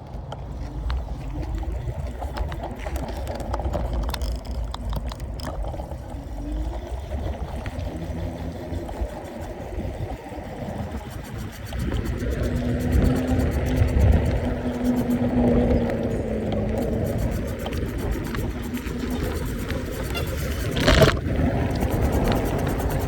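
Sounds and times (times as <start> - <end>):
electric scooter road noise: 0.0 - 23.0
scattered clicks: 0.0 - 23.0
wind buffeting microphone: 0.0 - 23.0.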